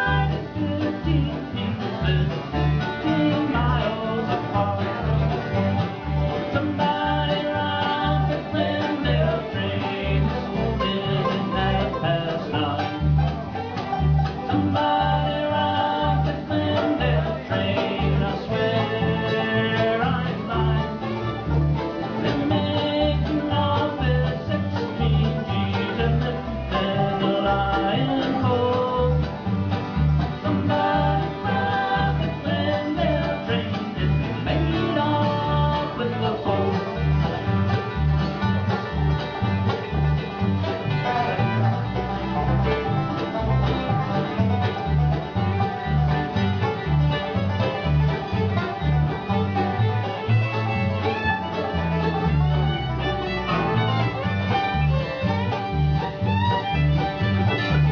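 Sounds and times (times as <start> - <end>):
banjo: 0.0 - 57.9
fiddle: 0.0 - 57.9
guitar: 0.0 - 57.9
mandolin: 0.0 - 57.9
upright bass: 0.0 - 57.9.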